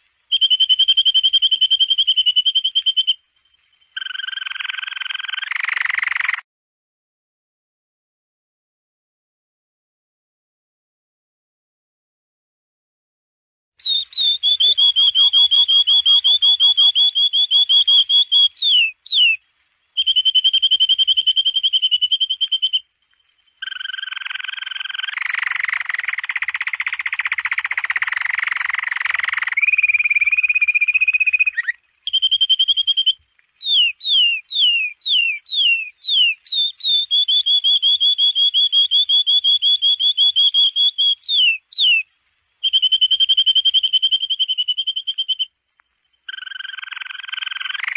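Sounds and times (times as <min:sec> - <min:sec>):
canary singing trills: 0:00.3 - 0:06.4, 0:13.8 - 0:19.4, 0:20.0 - 0:47.9.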